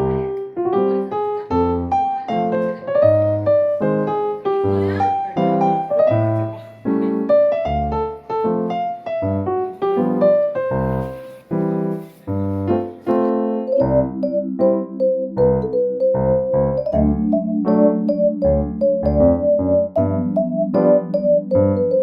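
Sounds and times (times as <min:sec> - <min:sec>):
bouncy piano tune: 0:00.0 - 0:22.0.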